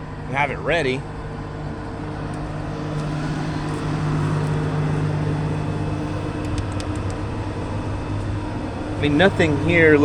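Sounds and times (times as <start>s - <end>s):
engine idling: 1.2s - 10.0s.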